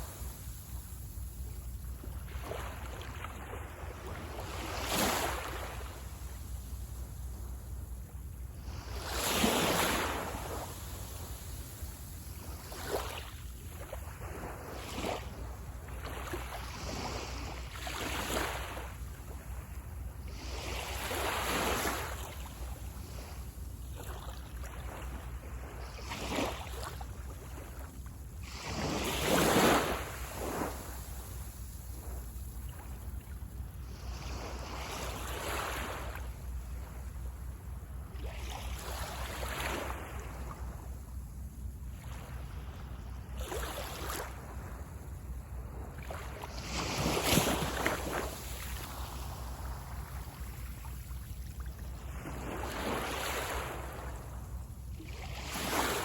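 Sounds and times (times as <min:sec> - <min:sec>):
small waves washing on beach: 0:00.0 - 0:56.0.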